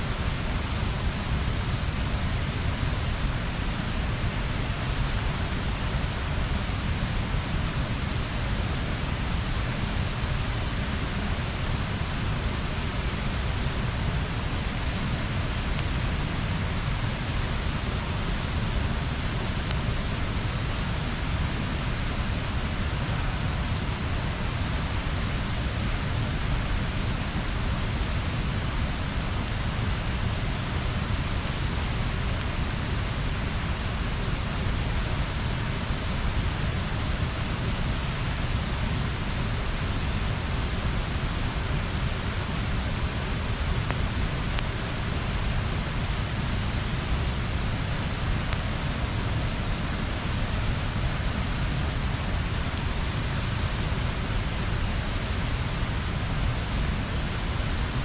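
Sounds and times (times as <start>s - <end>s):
bonfire rushing: 0.0s - 57.9s
faint fire crackles: 0.0s - 58.0s.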